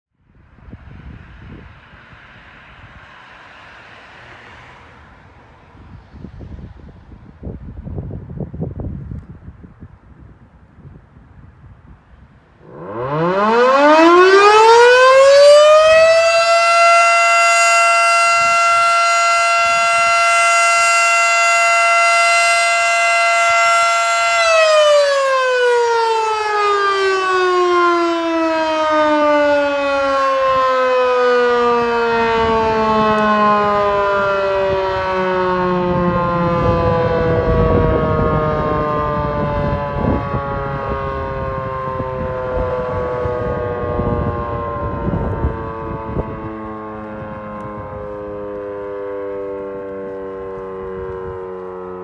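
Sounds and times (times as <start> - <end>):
outdoor warning siren: 0.1 - 8.6, 11.5 - 52.0.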